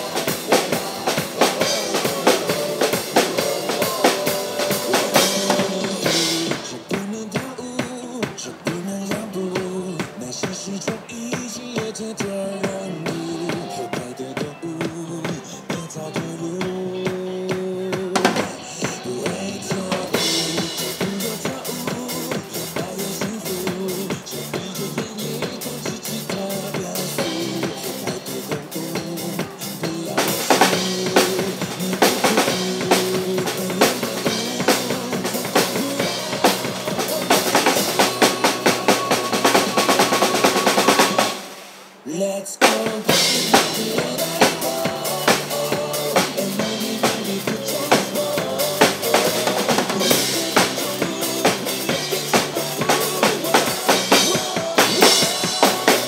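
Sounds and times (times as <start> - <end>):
drum kit played hard: 0.0 - 42.0, 42.6 - 56.0
recorded backing music: 0.0 - 56.0.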